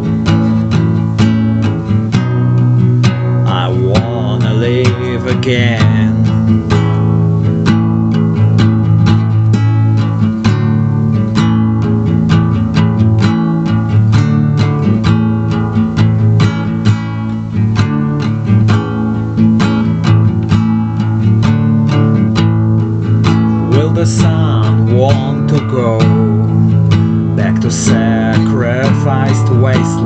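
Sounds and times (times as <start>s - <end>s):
guitar strummed: 0.0s - 30.0s.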